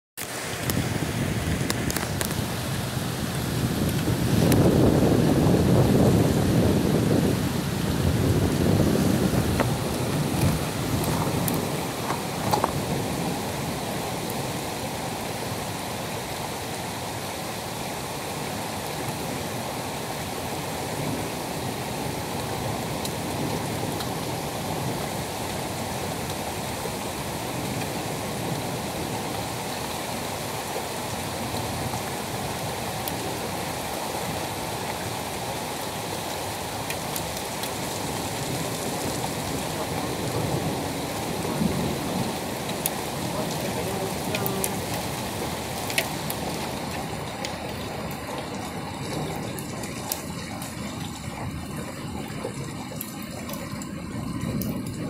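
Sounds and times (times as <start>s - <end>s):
heavy rain falling: 0.2s - 55.0s.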